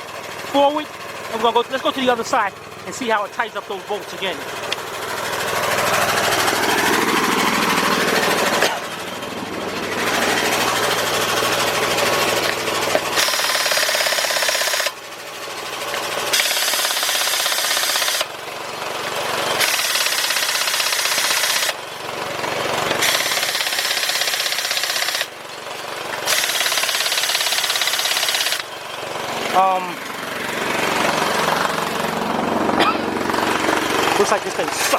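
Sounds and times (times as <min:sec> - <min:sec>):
air compressor running: 0:00.0 - 0:34.9
air impact wrench hammering: 0:01.4 - 0:15.0, 0:15.9 - 0:18.4, 0:19.4 - 0:21.8, 0:22.8 - 0:25.4, 0:26.1 - 0:34.9.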